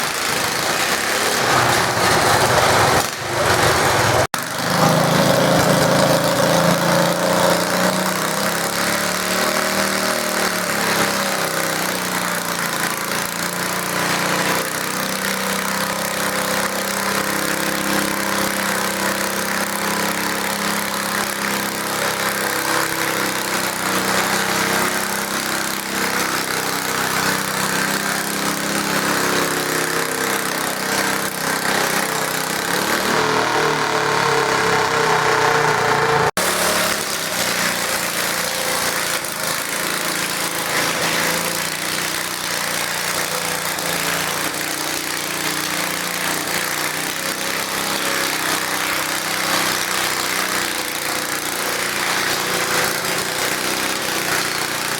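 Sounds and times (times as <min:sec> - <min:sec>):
garden tractor engine running hard: 0:00.0 - 0:54.9.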